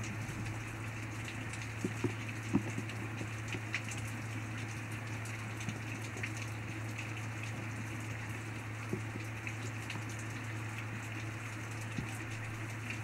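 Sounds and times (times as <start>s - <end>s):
constant low hum: 0.0s - 13.0s
rain falling: 0.0s - 13.0s.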